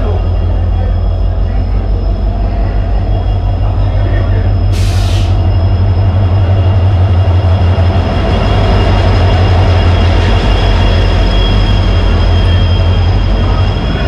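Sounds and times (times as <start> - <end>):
locomotive engine droning: 0.0 - 14.0
train brakes squealing: 0.0 - 14.0.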